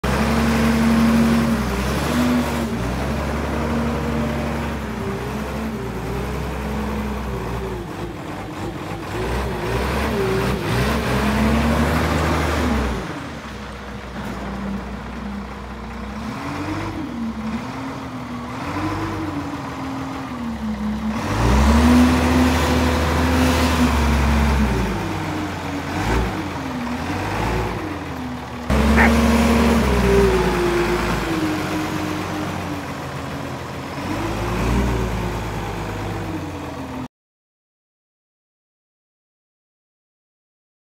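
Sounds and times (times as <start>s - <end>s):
diesel forklift engine revving: 0.0s - 37.1s.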